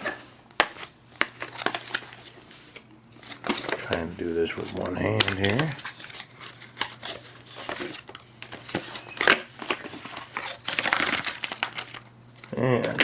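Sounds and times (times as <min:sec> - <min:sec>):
cardboard packaging rustling: 0:00.0 - 0:13.0.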